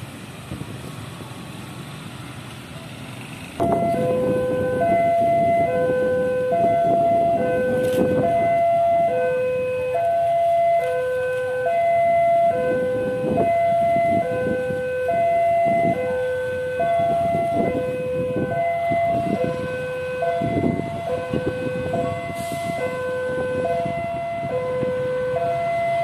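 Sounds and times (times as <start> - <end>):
low engine rumble: 0.0 - 26.0
level crossing two-tone alarm: 3.6 - 26.0.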